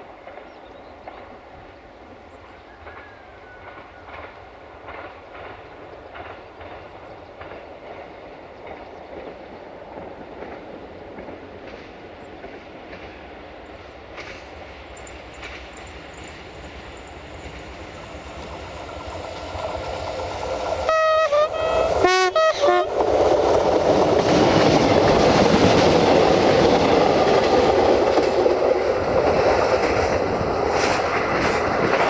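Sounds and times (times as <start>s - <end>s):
train rumble: 0.0s - 32.0s
train wheels clicking on rail joints: 0.0s - 32.0s.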